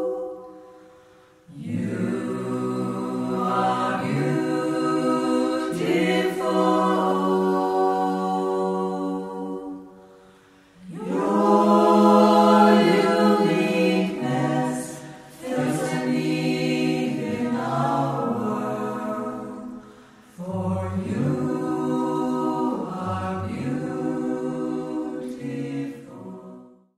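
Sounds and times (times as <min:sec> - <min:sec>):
unaccompanied choir singing: 0:00.0 - 0:26.9.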